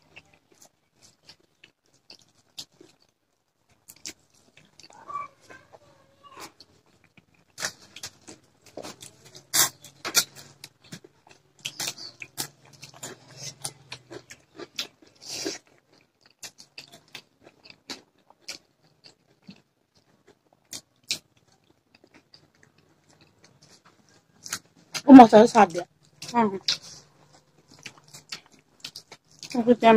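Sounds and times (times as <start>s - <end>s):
wet chewing and lip smacks: 0.0s - 5.8s, 6.4s - 25.1s, 25.8s - 29.6s.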